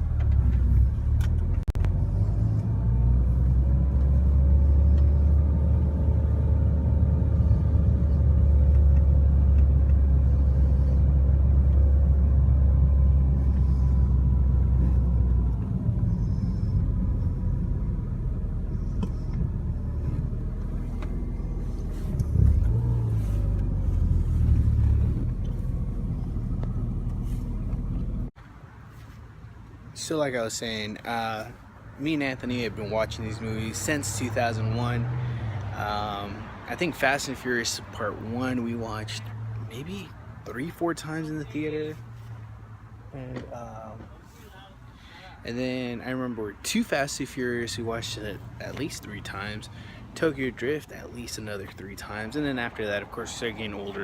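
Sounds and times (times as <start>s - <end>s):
car engine: 0.0s - 44.1s, 45.5s - 54.0s
road rumble: 0.0s - 54.0s.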